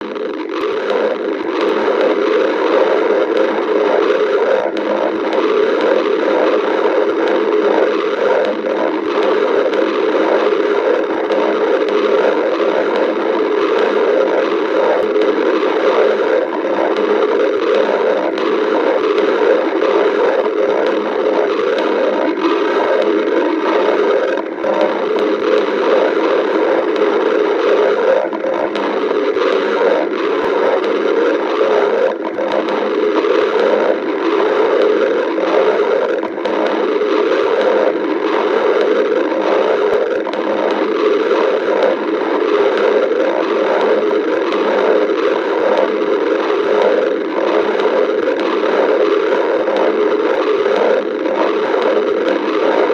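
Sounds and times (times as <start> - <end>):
small clicks: 0.0 - 52.9
stomach growling: 0.0 - 52.9.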